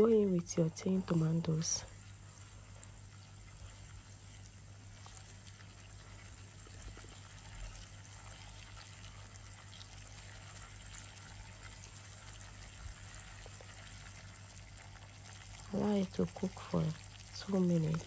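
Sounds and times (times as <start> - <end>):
faint sizzling in a pot: 0.0 - 18.0.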